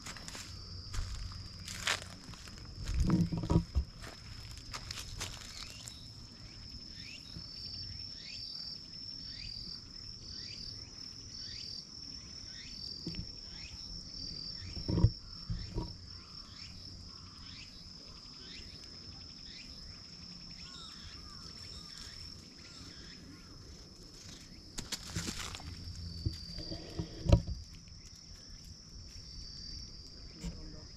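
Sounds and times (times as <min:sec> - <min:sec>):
insect high-pitched buzz: 0:00.0 - 0:30.9.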